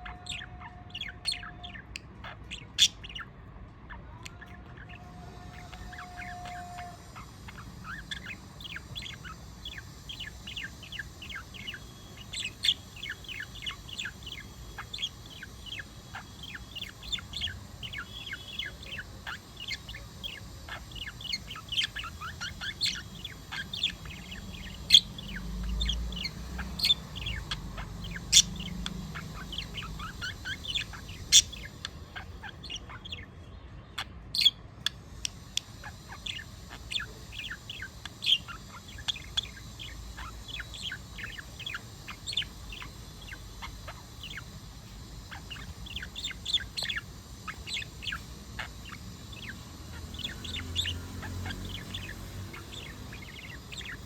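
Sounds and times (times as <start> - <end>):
budgerigar chirping and warbling: 0.0 - 54.0.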